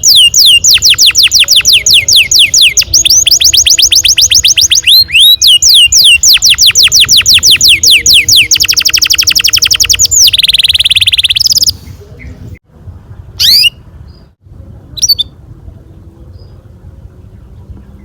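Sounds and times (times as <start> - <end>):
canary singing: 0.0 - 12.6, 13.4 - 15.4.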